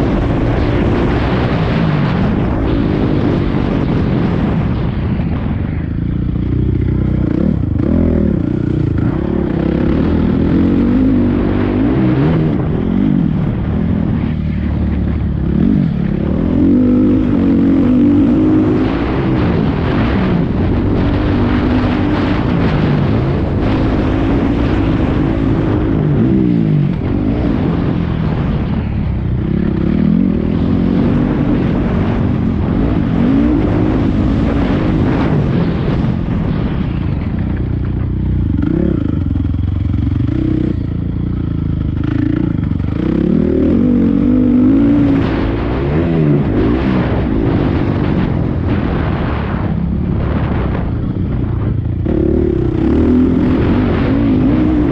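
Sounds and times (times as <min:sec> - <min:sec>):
motocross bike engine revving: 0:00.0 - 0:04.6, 0:06.0 - 0:49.7, 0:50.4 - 0:54.9.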